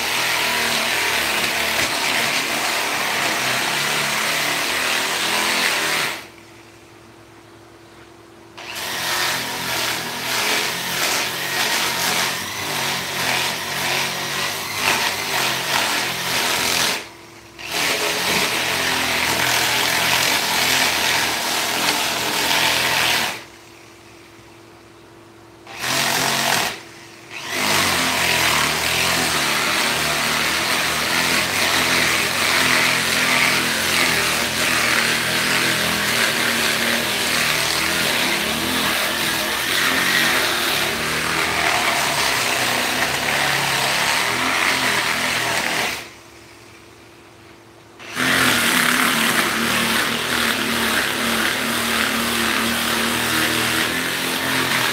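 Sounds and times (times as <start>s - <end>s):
electric power tool running: 0.0s - 6.4s, 8.6s - 23.6s, 25.7s - 46.2s, 48.0s - 54.9s.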